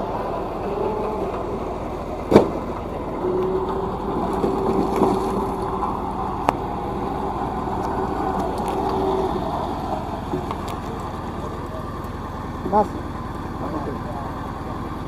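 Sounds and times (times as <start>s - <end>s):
steady tone: 0.0s - 14.3s
road roller engine running: 0.0s - 15.0s.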